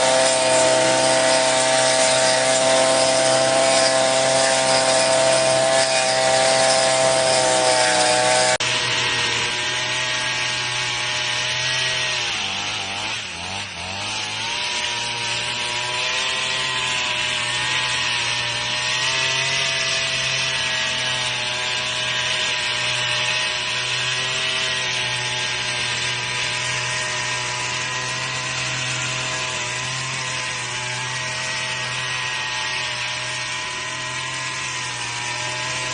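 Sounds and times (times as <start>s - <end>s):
small engine running at high speed: 0.0s - 35.9s.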